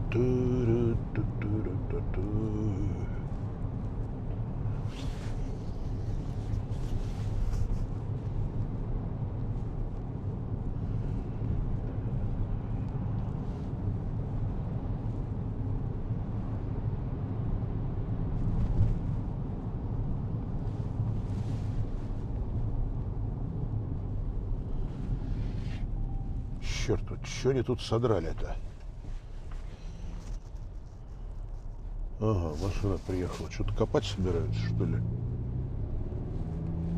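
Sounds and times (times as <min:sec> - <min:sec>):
car engine and tyres rumbling: 0:00.0 - 0:36.9.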